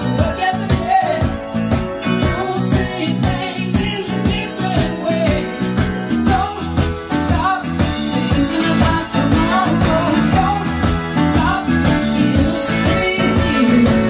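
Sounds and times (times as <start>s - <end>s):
guitar: 0.0s - 14.0s
person singing: 0.0s - 14.0s
steady beat: 0.0s - 14.0s.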